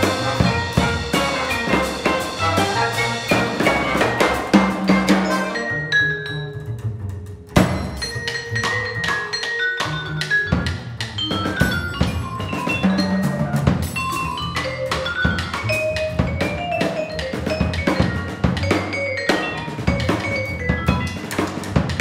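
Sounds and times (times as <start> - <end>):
drum kit with cymbals: 0.0 - 22.0
vibraphone notes: 0.0 - 22.0.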